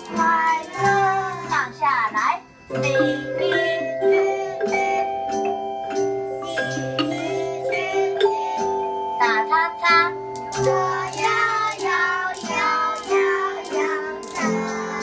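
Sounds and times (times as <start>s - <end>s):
instrumental accompaniment: 0.0s - 15.0s
young children singing: 0.0s - 15.0s.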